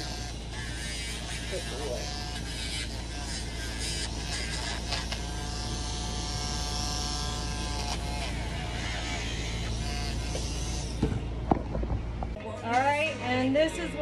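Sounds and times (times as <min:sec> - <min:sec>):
electric nail grinder running: 0:00.0 - 0:11.3.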